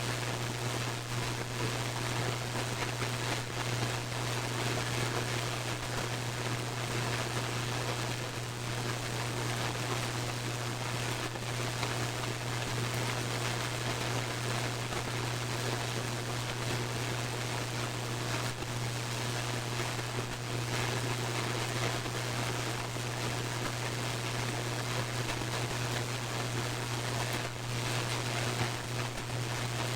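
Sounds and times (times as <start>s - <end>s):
faint static crackles: 0.0s - 29.9s.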